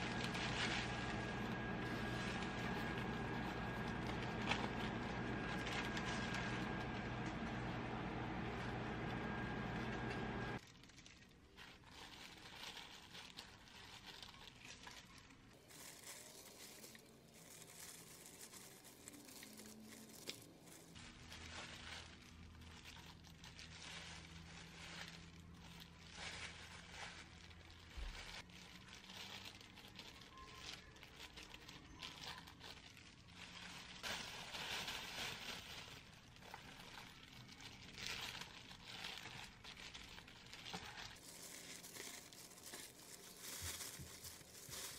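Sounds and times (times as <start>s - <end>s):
plastic bags crinkling: 0.0s - 44.9s.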